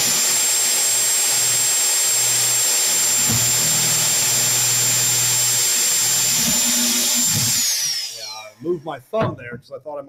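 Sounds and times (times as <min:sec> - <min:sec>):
electric drill boring through pipe: 0:00.0 - 0:08.6.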